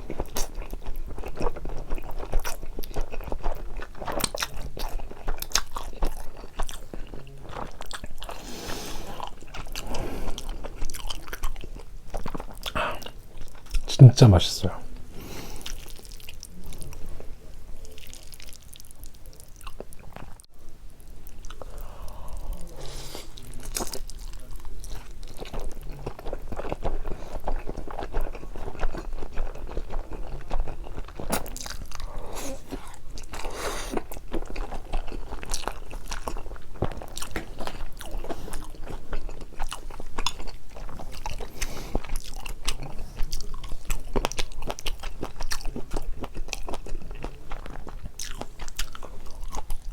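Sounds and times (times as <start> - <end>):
chewing and crunching noodles: 0.0 - 49.9.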